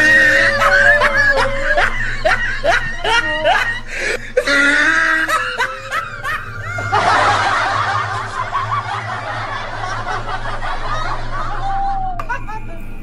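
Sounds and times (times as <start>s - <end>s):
high-pitched laughter: 0.0s - 12.2s
low hum: 0.0s - 13.0s.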